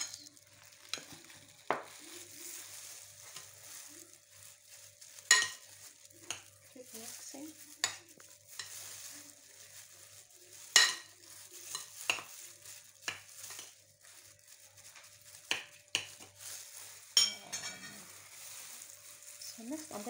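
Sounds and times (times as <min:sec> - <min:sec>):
meat squishing by hand: 0:00.0 - 0:20.0
plastic glove rustle: 0:00.0 - 0:20.0.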